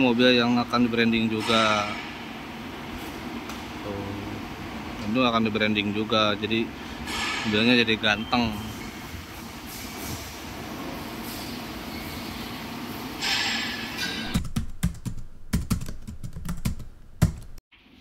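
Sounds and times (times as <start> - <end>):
steady background noise: 0.0 - 17.9.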